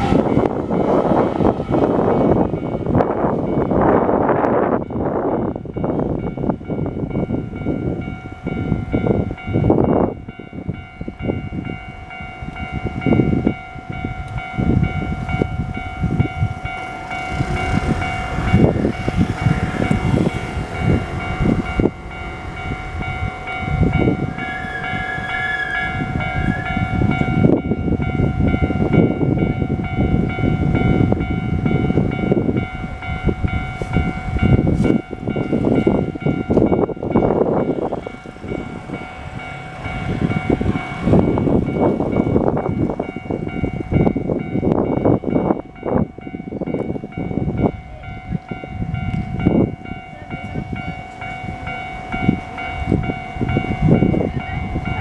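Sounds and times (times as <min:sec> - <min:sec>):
crossing warning bell: 0:00.0 - 0:55.0
high train whine: 0:00.0 - 0:55.0.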